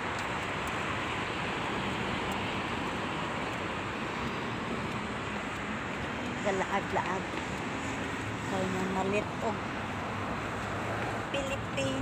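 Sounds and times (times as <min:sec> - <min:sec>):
road traffic hiss: 0:00.0 - 0:12.0.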